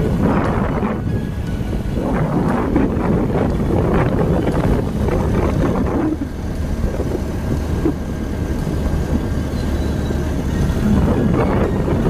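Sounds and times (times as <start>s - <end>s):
vehicle rumble: 0.0s - 12.0s
wind noise on microphone: 0.0s - 12.0s.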